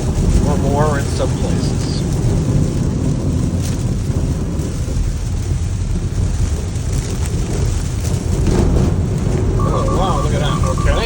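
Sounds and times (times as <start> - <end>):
water drumming on car underbody: 0.0 - 9.6
rain on a car: 0.0 - 11.0.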